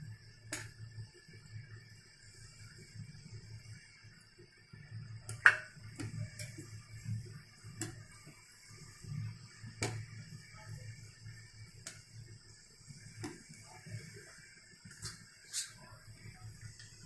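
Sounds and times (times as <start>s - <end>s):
food sizzling in hot oil: 2.4s - 17.0s.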